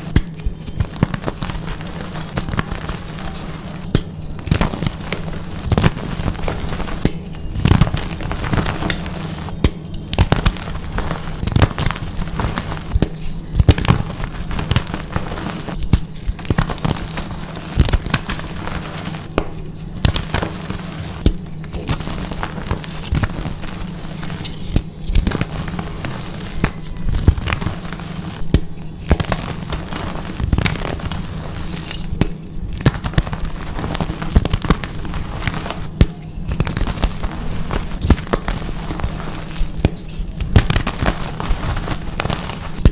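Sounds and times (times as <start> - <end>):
chalk blocks being crushed: 0.0 - 42.9.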